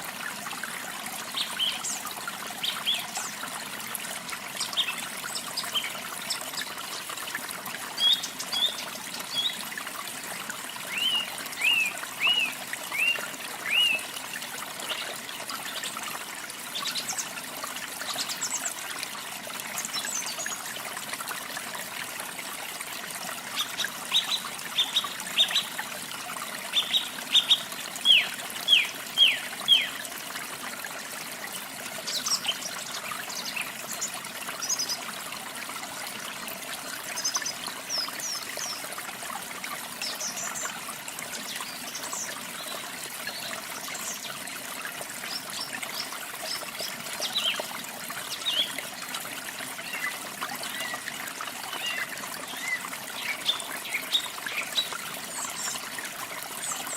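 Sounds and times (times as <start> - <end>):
water trickling and splashing: 0.0 - 56.9.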